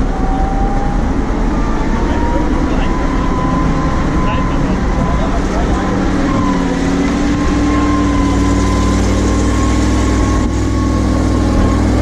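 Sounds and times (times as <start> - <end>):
high whine: 0.0 - 12.0
truck engine running: 0.0 - 12.0.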